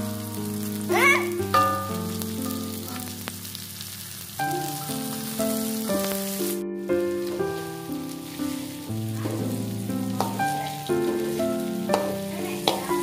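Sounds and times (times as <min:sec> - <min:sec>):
food sizzling in hot oil: 0:00.0 - 0:13.0
metal spatula stir-frying: 0:00.0 - 0:13.0
soft background music: 0:00.0 - 0:13.0.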